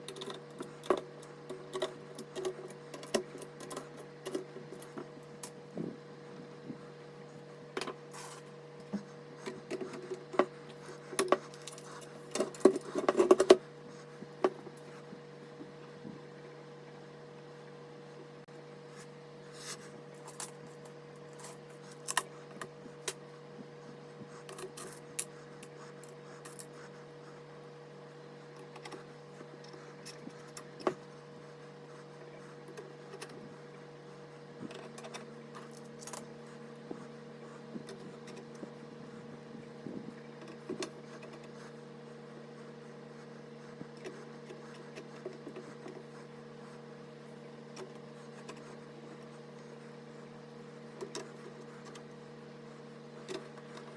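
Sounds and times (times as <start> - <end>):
electrical hum: 0.0 - 53.9.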